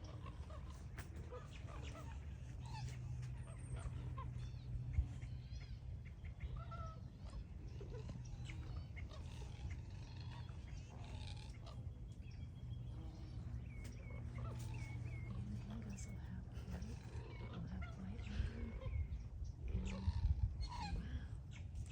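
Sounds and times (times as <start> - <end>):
birds chirping and squawking: 0.0 - 21.9
steady low hum: 0.0 - 21.9.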